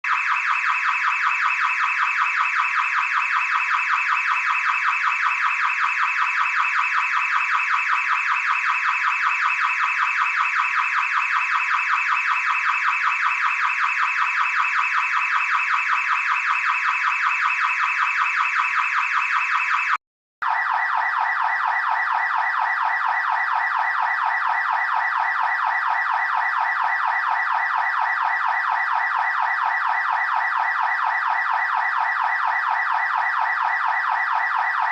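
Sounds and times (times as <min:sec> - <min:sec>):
car alarm siren warbling: 0:00.0 - 0:34.9
lower-pitched car alarm tone: 0:00.0 - 0:34.9.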